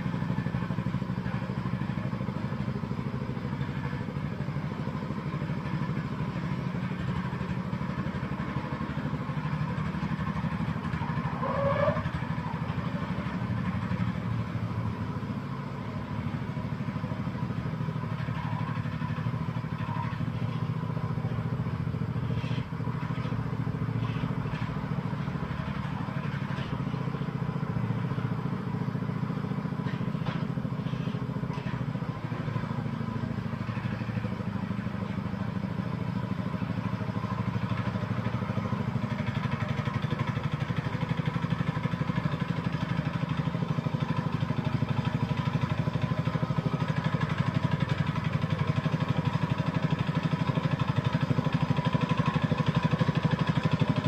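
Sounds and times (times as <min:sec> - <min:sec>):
tiller engine running: 0:00.0 - 0:54.0.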